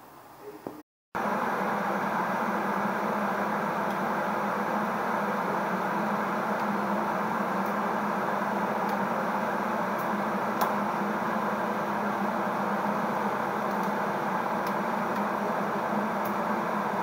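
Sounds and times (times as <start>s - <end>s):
pot boiling and bubbling: 1.2s - 17.0s.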